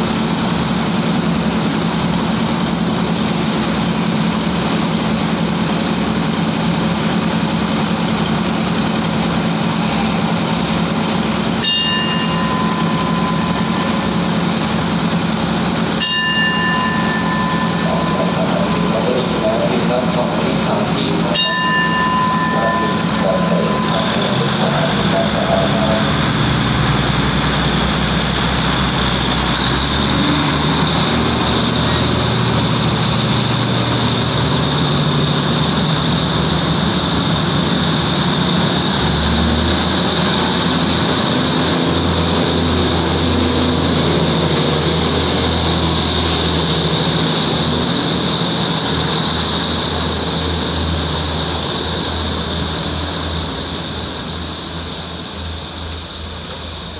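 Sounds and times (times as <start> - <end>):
high whine: 0.0 - 56.9
train rumble: 0.0 - 56.9.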